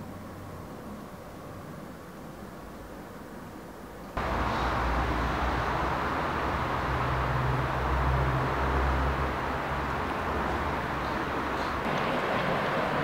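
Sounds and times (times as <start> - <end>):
even hiss: 0.0 - 13.0.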